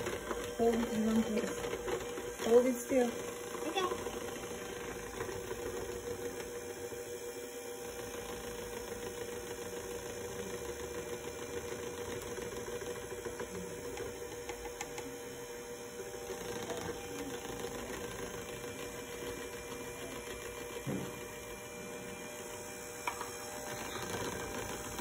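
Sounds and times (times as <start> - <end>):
electric hand mixer whisking: 0.0 - 25.0.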